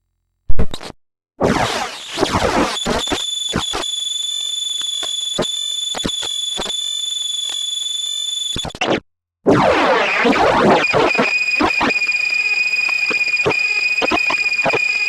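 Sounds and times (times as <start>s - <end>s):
high-pitched electronic alarm tone: 1.8s - 8.9s, 9.6s - 15.0s.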